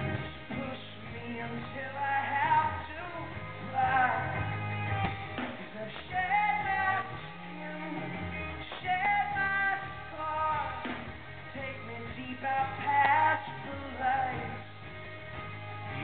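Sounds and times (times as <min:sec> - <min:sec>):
person singing: 0:00.0 - 0:14.8
band playing: 0:00.0 - 0:16.0.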